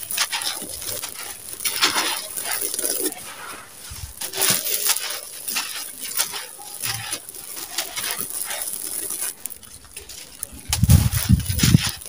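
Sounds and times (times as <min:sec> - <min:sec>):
grit pouring onto gravel heap: 0:00.0 - 0:12.0.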